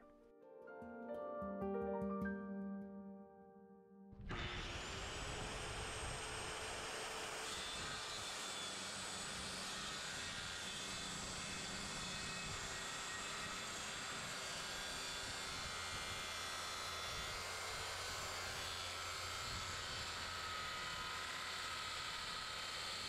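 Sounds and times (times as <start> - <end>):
circular saw cutting wood: 4.2 - 23.0.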